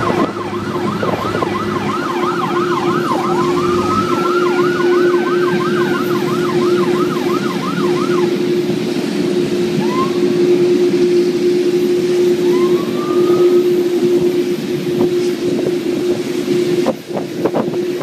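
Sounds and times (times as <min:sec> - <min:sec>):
siren rising wail: 0:00.0 - 0:18.0
siren yelp: 0:00.0 - 0:18.0.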